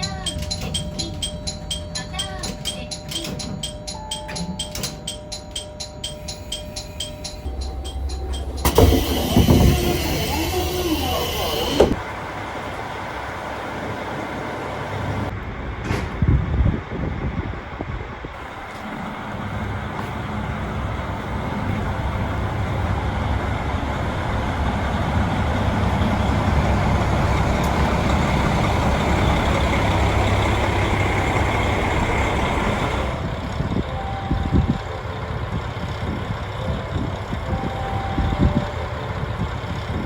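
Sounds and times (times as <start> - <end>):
diesel railcar engine hum: 0.0 - 40.0.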